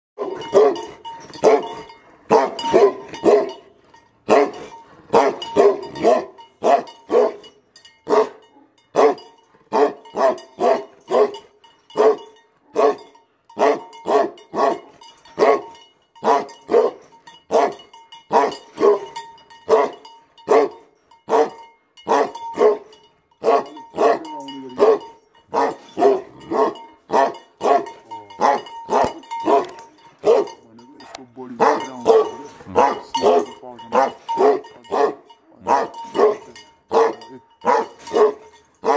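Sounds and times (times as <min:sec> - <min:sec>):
dog barking aggressively: 0:00.2 - 0:30.6, 0:31.5 - 0:38.9
collar bell clinking: 0:00.2 - 0:38.9.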